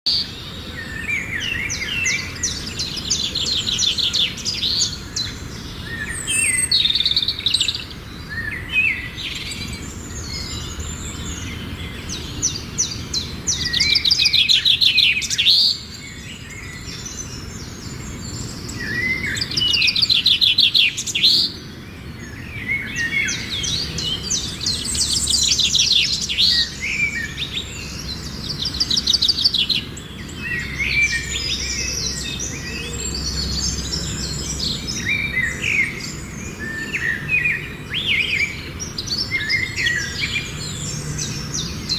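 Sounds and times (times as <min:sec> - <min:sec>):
songbirds trilling chirps: 0:00.0 - 0:41.9.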